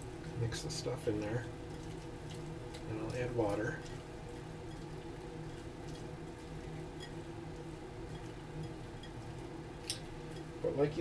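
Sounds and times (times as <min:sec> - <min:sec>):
fingers stirring wet raisins: 0:00.0 - 0:11.0
steady low hum: 0:00.0 - 0:11.0.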